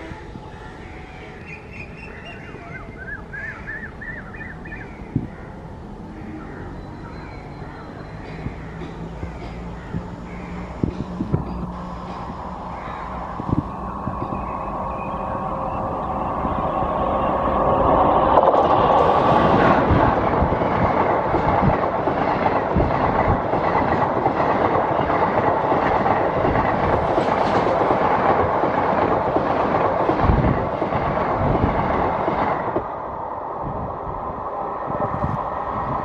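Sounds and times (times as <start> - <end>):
steady locomotive tone: 0.0 - 36.0.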